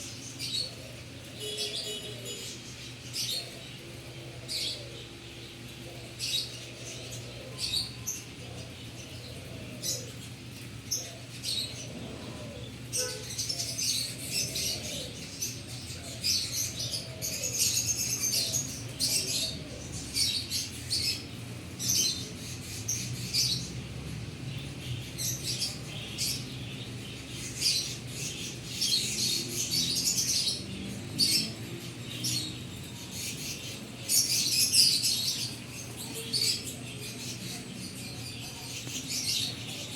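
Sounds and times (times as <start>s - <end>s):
canaries chirping: 0.0s - 39.9s.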